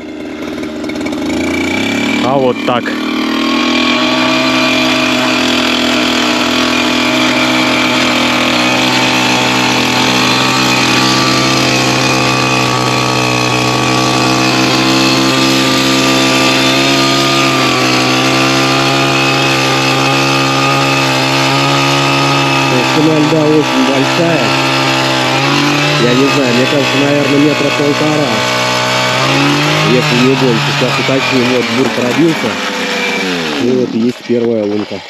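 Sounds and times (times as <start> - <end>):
powered ice auger boring: 0.0 - 35.0.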